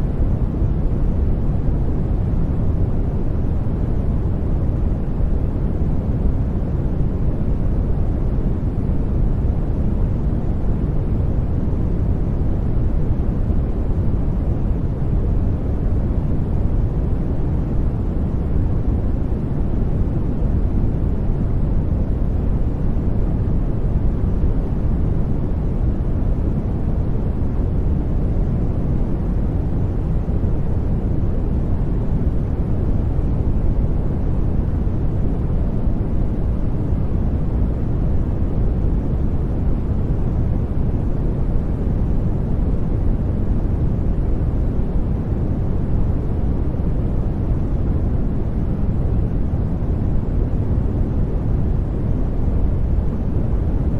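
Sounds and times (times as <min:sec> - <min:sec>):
low rumbling white noise: 0:00.0 - 0:53.9.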